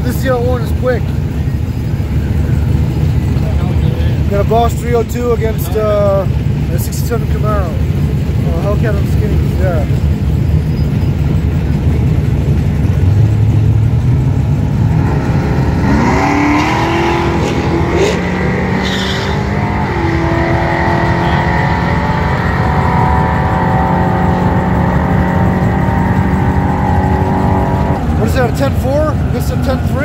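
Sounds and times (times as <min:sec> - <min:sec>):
engine revving: 0:00.0 - 0:30.0
race car engines rumbling: 0:00.0 - 0:30.0.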